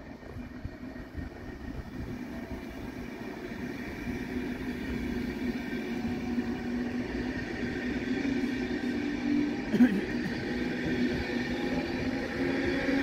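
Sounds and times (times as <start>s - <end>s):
train humming pulling out: 0.0s - 13.0s.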